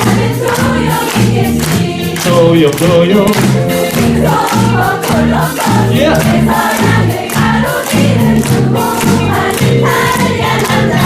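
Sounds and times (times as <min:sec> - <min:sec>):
musical accompaniment with beat: 0:00.0 - 0:11.0
voices singing together: 0:00.0 - 0:11.0.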